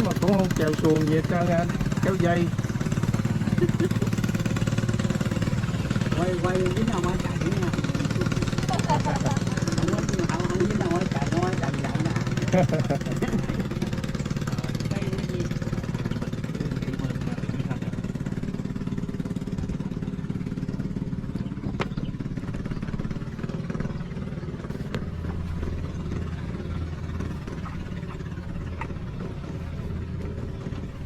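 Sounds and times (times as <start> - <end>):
deep steady hum: 0.0 - 31.0
small motorcycle engine running: 0.0 - 31.0.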